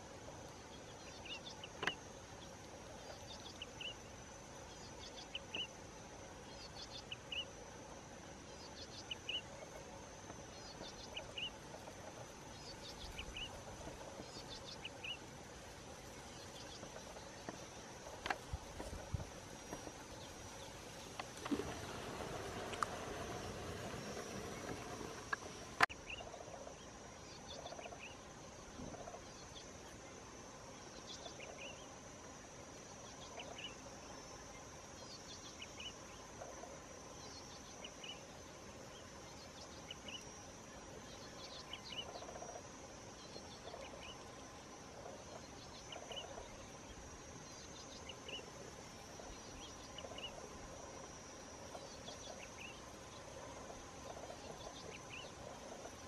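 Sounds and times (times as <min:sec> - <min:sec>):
insect chirping calls: 0:00.0 - 0:56.0.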